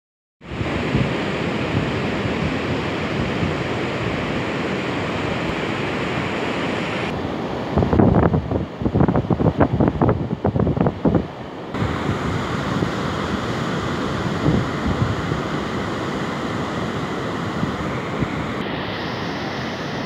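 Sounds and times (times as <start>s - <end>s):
surf: 0.4s - 10.1s, 11.1s - 20.0s
wind: 0.4s - 20.0s
wind buffeting microphone: 0.5s - 18.7s.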